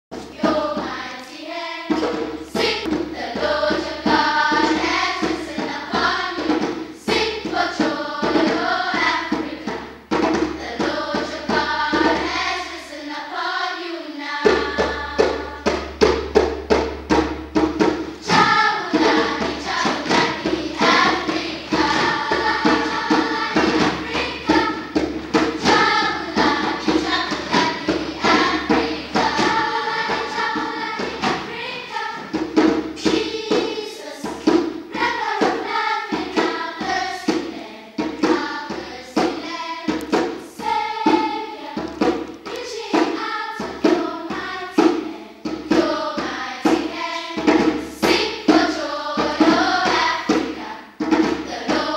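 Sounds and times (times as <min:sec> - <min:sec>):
children's choir singing: 0:00.2 - 0:51.9
hand drum beating: 0:01.9 - 0:12.8, 0:14.4 - 0:51.9.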